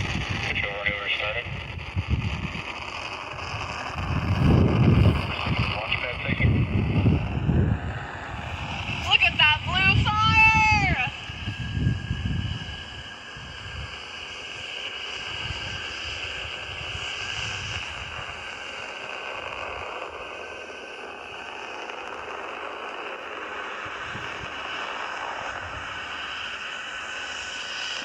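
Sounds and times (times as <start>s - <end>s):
distant rocket launch roar: 0.0s - 28.0s.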